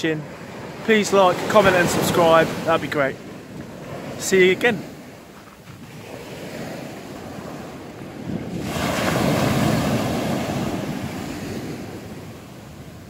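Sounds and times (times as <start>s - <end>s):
sea waves breaking on beach: 0.0s - 13.0s
wind buffeting microphone: 0.2s - 13.0s.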